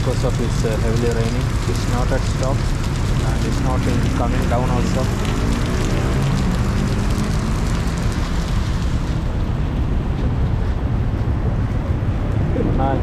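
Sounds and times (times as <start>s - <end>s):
heavy rain pouring: 0.0s - 13.0s
street traffic rumble: 0.0s - 13.0s.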